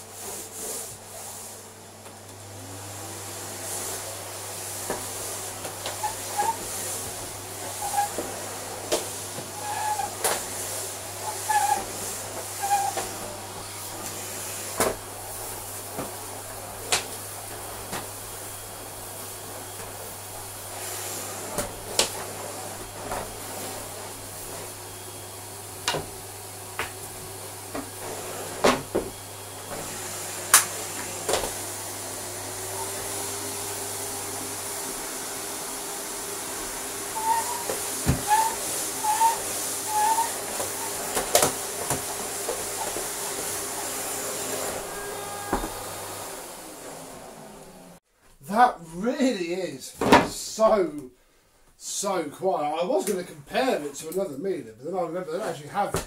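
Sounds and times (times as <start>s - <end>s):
vacuum cleaner running: 0.0s - 48.0s.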